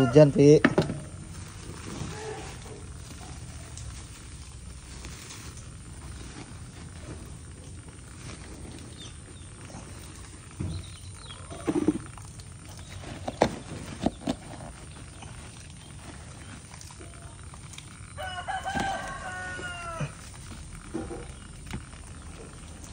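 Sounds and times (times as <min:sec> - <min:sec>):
plastic feed sacks rustling: 0:00.0 - 0:22.9
sharp crinkles or knocks: 0:00.4 - 0:22.9.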